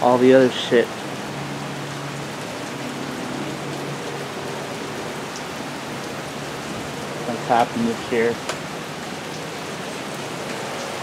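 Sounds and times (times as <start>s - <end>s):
heavy rain on pavement and cars: 0.0s - 11.0s.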